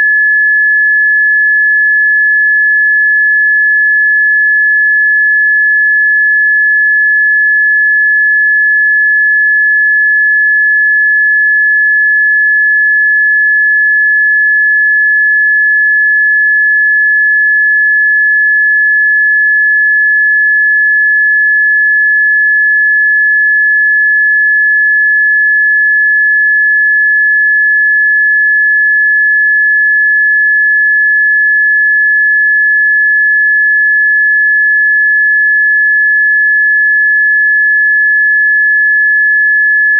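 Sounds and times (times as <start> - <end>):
high pure sine tone: 0.0 - 39.9.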